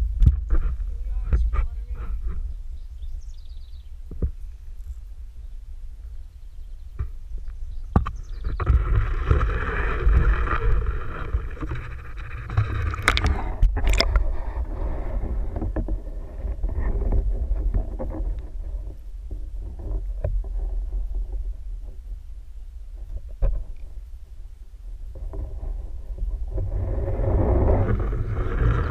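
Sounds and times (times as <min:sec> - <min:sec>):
muffled underwater rumble: 0:00.0 - 0:28.9.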